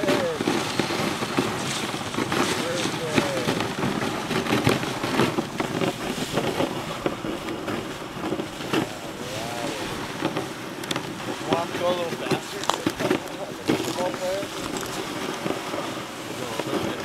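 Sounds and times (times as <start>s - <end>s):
sled frame knocks: 0.0s - 15.6s
sled runners hissing over snow: 0.0s - 17.0s
wind on microphone: 0.0s - 17.0s.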